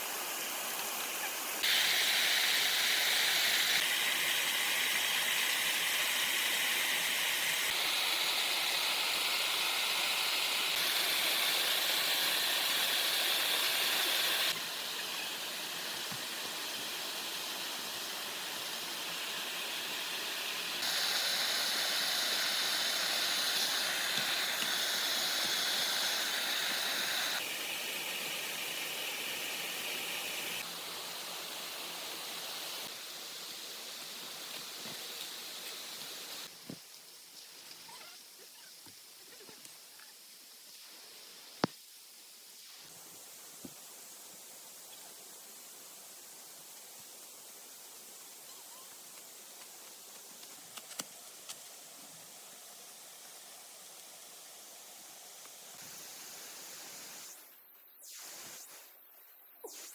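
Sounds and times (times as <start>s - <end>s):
steady outdoor hissing: 0.0s - 59.9s.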